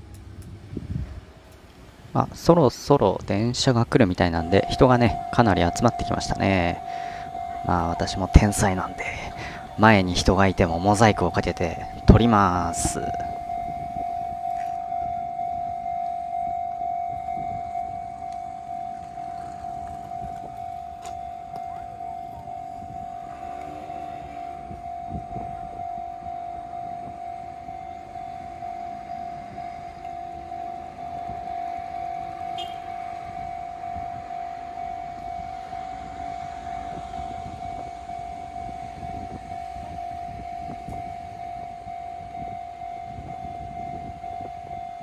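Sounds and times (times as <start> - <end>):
faint street and crowd noise: 0.0 - 42.8
level crossing electronic bell: 3.6 - 45.0.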